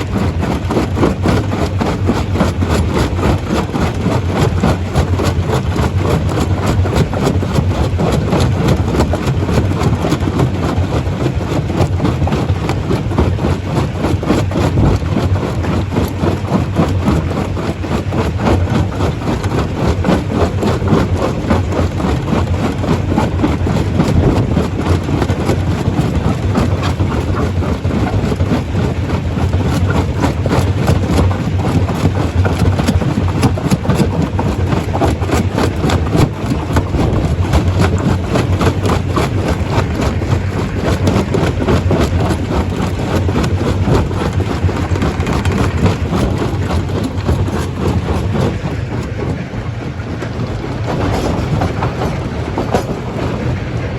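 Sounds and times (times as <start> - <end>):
rock clattering in crusher: 0.0 - 53.9.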